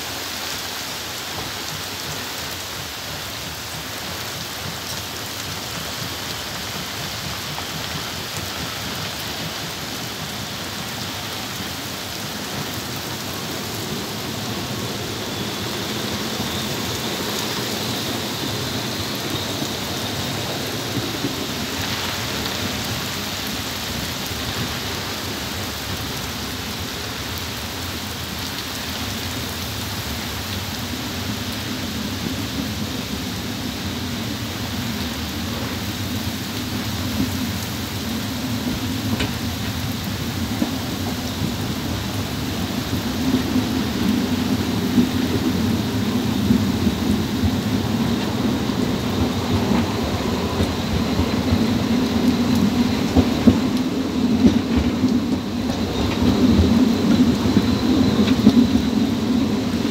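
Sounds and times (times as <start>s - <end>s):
heavy rain hissing: 0.0s - 59.9s
train low rumble: 0.0s - 59.9s.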